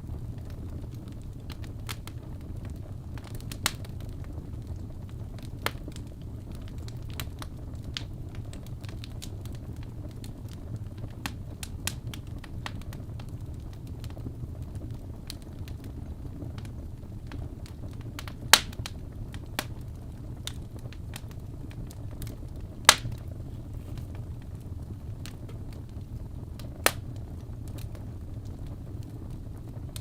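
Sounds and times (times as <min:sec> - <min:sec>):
fire crackling and popping: 0:00.0 - 0:30.0
low rumble of burning: 0:00.0 - 0:30.0.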